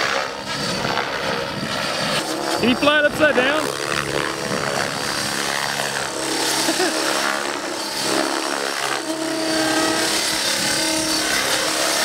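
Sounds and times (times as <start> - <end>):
model helicopter rotor and motor whine: 0.0 - 12.0.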